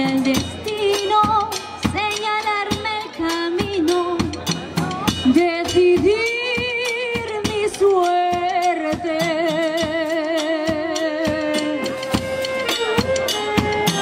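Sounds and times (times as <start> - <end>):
drum kit: 0.0 - 14.0
hand percussion: 0.0 - 14.0
live band playing: 0.0 - 14.0.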